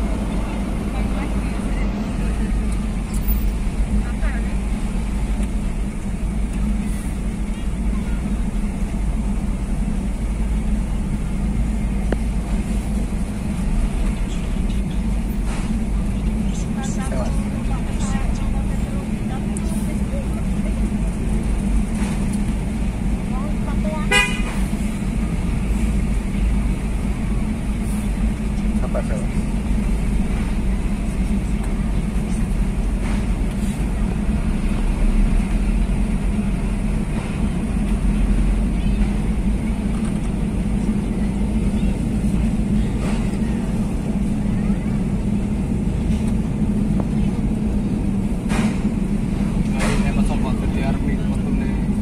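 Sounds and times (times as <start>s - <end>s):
low rumble of engines: 0.0s - 52.0s.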